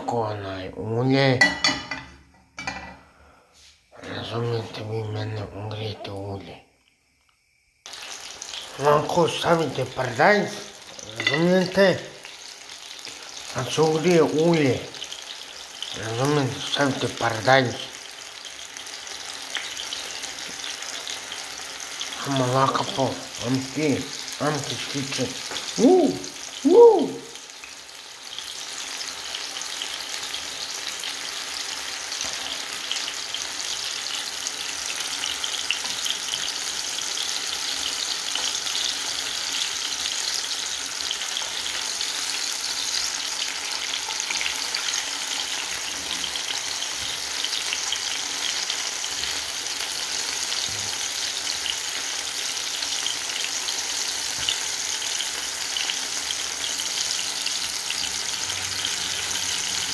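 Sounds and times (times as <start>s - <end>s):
tomato slices frying in oil: 4.0s - 59.9s.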